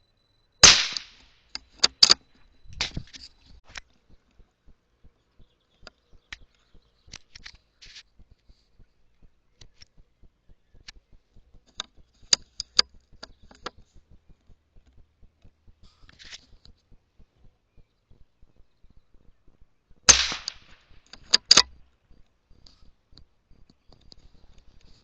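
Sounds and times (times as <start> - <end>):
faint sharp clicks and taps: 1.5 - 25.0.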